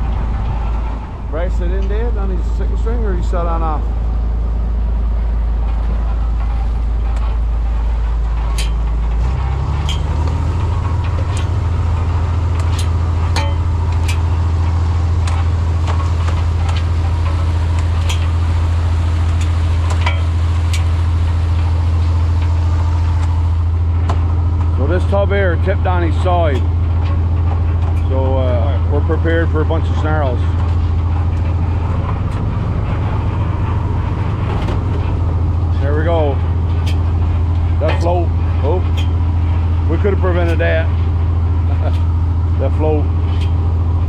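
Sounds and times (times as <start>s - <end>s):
boat engine running: 0.0s - 44.0s
sharp clicks and knocks: 5.2s - 28.2s, 29.2s - 42.2s, 42.8s - 43.7s.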